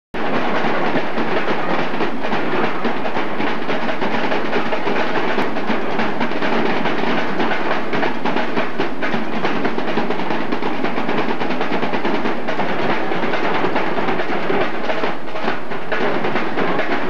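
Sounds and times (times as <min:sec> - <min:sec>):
marching drumline cadence: 0:00.2 - 0:17.0.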